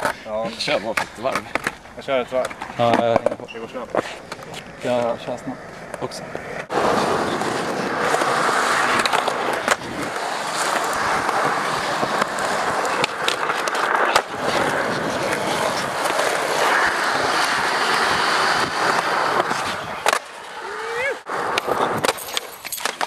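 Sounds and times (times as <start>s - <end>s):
skateboard clacks: 0.0s - 23.0s
skateboard wheels rolling on concrete: 0.0s - 23.0s.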